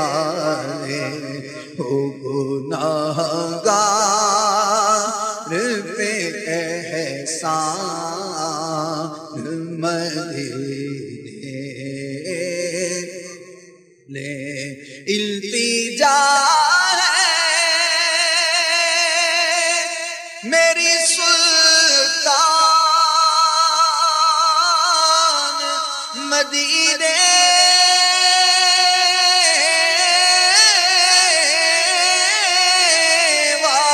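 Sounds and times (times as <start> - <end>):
man singing long wavering notes: 0.0 - 13.5, 14.1 - 33.9.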